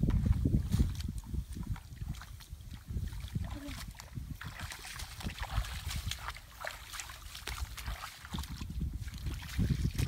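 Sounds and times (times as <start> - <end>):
footsteps splashing through water: 0.0 - 10.0
wind on microphone: 0.0 - 10.0.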